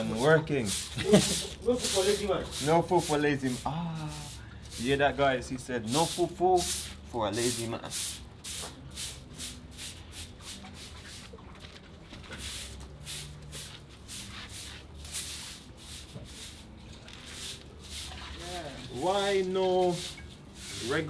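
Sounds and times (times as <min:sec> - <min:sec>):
broom sweeping concrete floor: 0:00.0 - 0:21.0.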